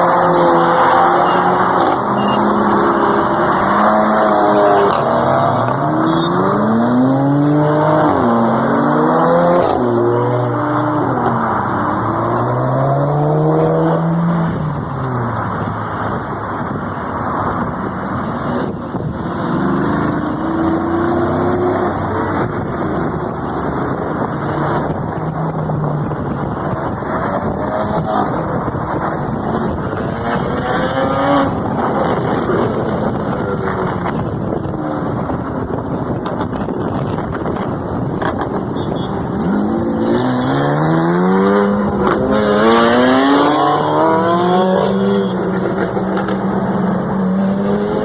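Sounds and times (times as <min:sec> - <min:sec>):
car engines revving: 0:00.0 - 0:48.0
road and tyre noise: 0:00.0 - 0:48.0.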